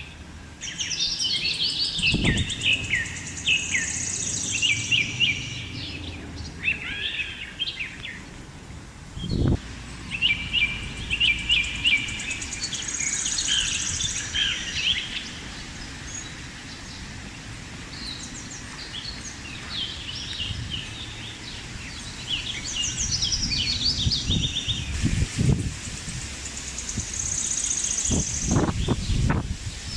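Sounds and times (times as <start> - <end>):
birds chirping and trilling: 0.0 - 8.4, 9.2 - 29.9
wind buffeting microphone: 1.4 - 6.8, 8.3 - 29.9.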